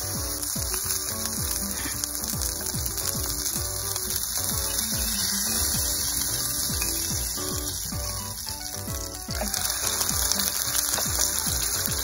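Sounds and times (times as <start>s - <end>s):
background music with steady beat: 0.0s - 12.0s
patty sizzling in a frying pan: 0.0s - 12.0s.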